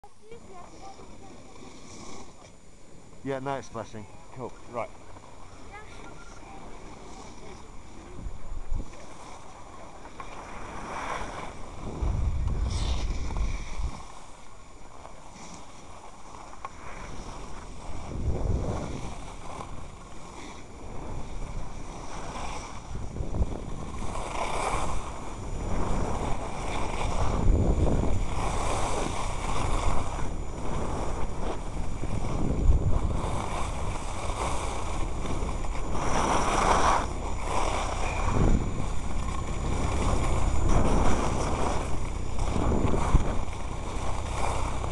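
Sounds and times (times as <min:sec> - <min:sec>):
skis sliding over packed snow: 0:00.0 - 0:44.9
wind buffeting microphone: 0:05.0 - 0:14.4, 0:16.8 - 0:44.9.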